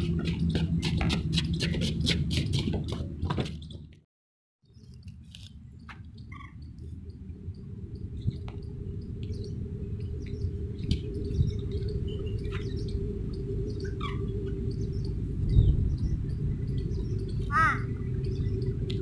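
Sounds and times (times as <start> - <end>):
birds chirping: 0.0 - 4.0, 4.7 - 19.0
steady low rumble: 0.0 - 4.0, 5.0 - 19.0.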